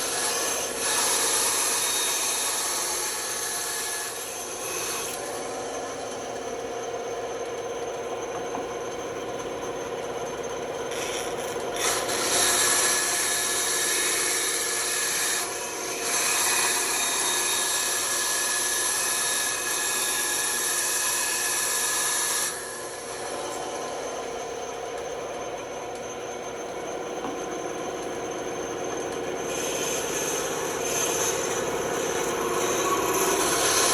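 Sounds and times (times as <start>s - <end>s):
saw blade cutting wood: 0.0s - 6.5s, 10.9s - 25.1s, 27.2s - 33.9s
band saw running: 0.0s - 33.9s.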